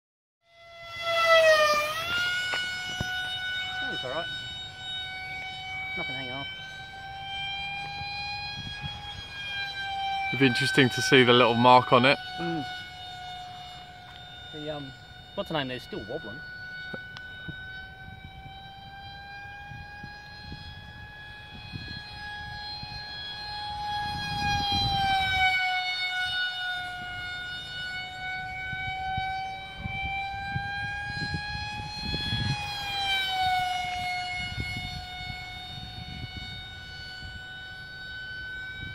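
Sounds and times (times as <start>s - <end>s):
model jet fan whining: 0.6s - 38.9s.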